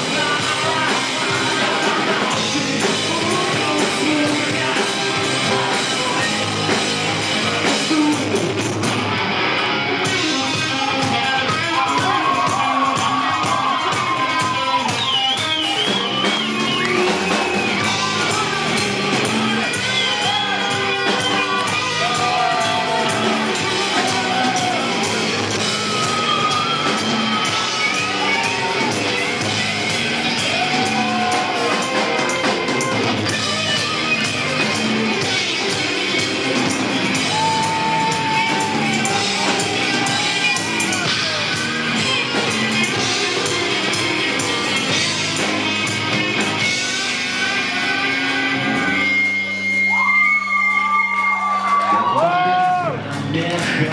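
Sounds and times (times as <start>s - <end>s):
sung or shouted vocals: 0.0s - 9.1s, 9.9s - 46.0s
drums in a steady beat: 0.0s - 53.9s
electric guitar: 0.0s - 53.9s.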